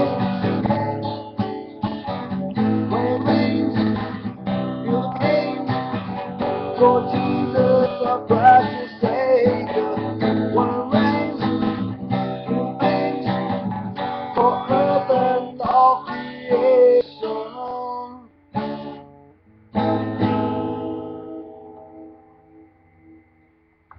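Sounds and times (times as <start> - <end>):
acoustic guitar strumming: 0.0 - 23.9.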